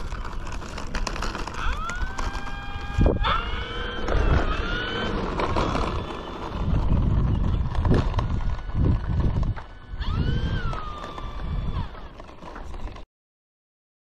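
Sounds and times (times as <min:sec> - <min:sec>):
low rumble: 0:00.0 - 0:12.8
electric motor and propeller whining: 0:00.0 - 0:13.1.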